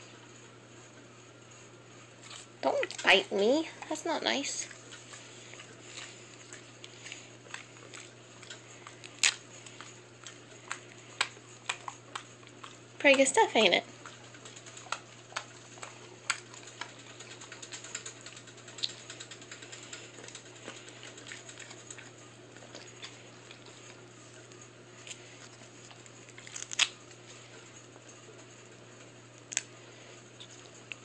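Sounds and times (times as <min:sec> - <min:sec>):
dog chewing jerky: 0:02.2 - 0:27.7.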